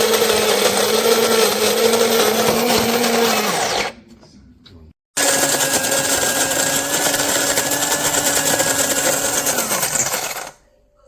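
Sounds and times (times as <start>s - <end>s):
electric coffee grinder running: 0.0s - 3.9s, 5.2s - 10.6s.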